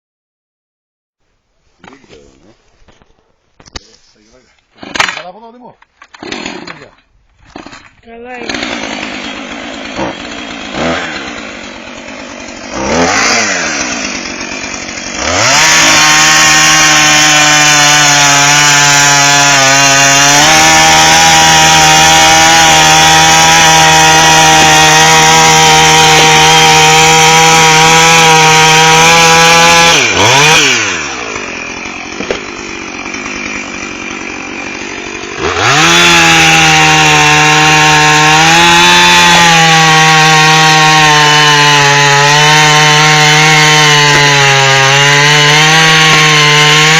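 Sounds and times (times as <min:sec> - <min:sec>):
chainsaw idling and revving: 0:04.8 - 0:07.0, 0:07.6 - 0:46.9.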